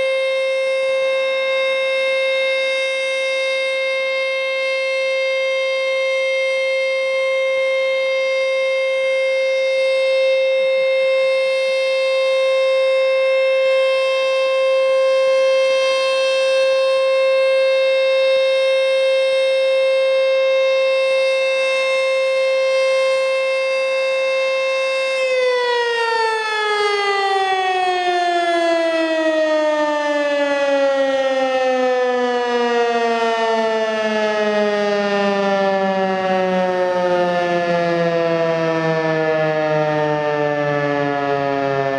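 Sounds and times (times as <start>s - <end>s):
tornado siren alert tone: 0.0s - 41.9s.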